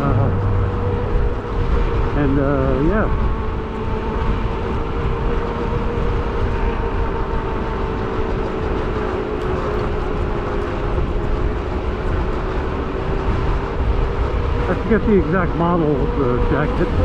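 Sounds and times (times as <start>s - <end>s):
e-bike motor whine: 0.0s - 17.0s
rolling road noise: 0.0s - 17.0s
wind rushing over microphone: 0.0s - 17.0s.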